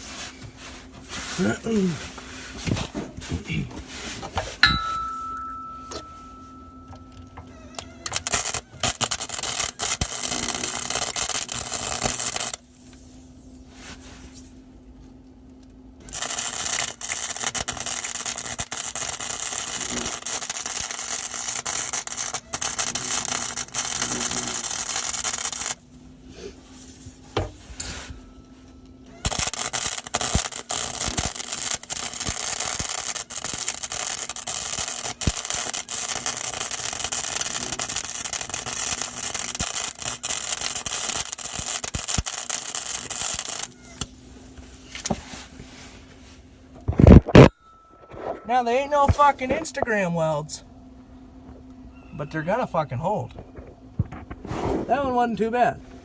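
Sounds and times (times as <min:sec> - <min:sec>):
welder arc crackling and sputtering: 0:00.0 - 0:45.9, 0:46.7 - 0:47.5, 0:48.6 - 0:50.6.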